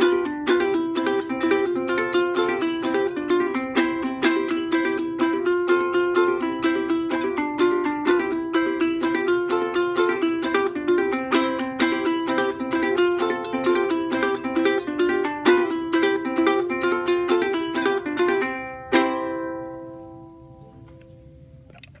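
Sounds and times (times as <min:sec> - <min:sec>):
ukulele picking and strumming: 0:00.0 - 0:21.9.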